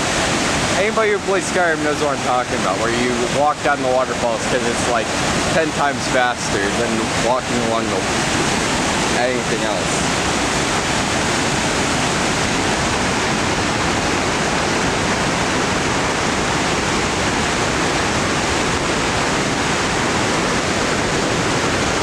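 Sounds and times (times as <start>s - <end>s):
roar of waterfall: 0.0s - 22.0s.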